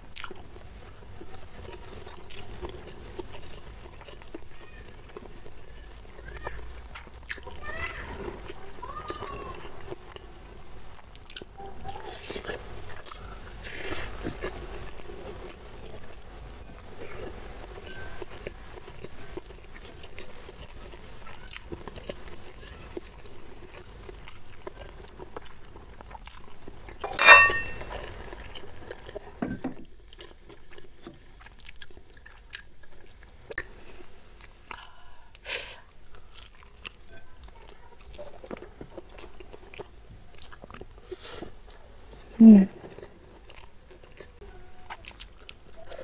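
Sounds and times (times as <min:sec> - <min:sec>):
chewing crispy food: 0:00.0 - 0:27.1, 0:27.7 - 0:46.0.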